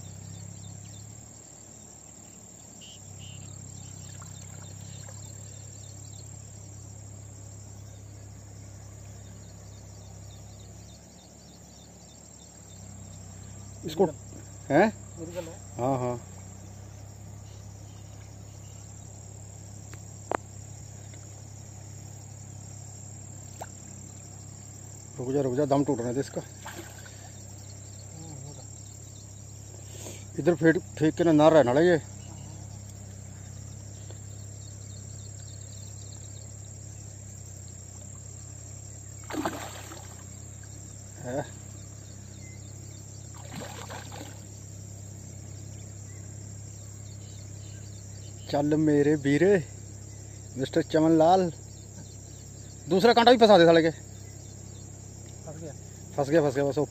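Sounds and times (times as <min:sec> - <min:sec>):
high insect chirring: 0:00.0 - 0:56.9.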